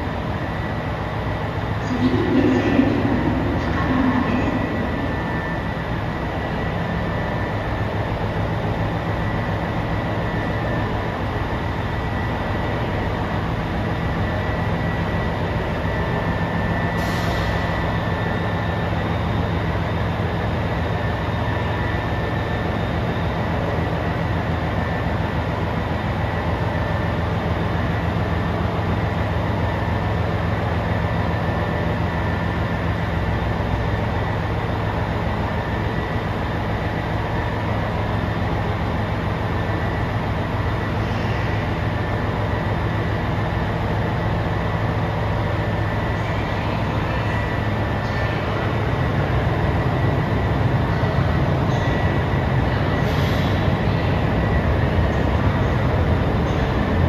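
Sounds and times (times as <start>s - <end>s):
diesel railcar engines droning: 0.0s - 57.0s
faint steady whine: 0.0s - 57.0s.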